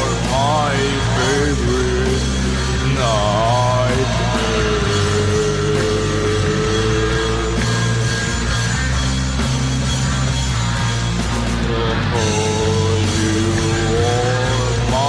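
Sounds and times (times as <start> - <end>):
bending lead guitar line: 0.0 - 15.0
heavy rock band playing: 0.0 - 15.0.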